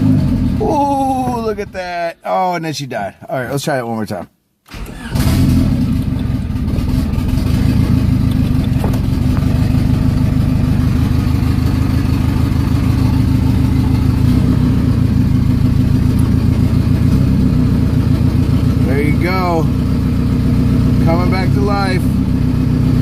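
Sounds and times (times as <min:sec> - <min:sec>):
car engine running: 0:00.0 - 0:01.9, 0:04.7 - 0:23.0.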